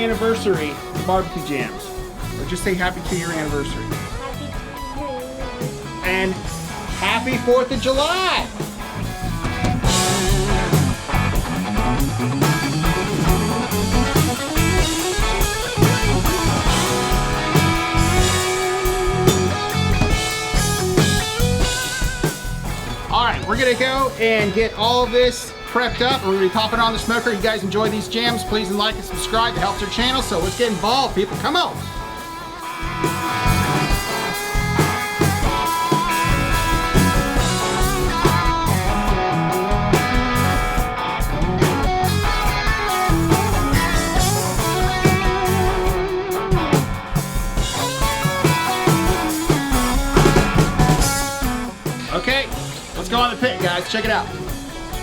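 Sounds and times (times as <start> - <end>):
bass: 0.0 - 55.0
drum kit beat: 0.0 - 55.0
rock music with electric guitar: 0.0 - 55.0.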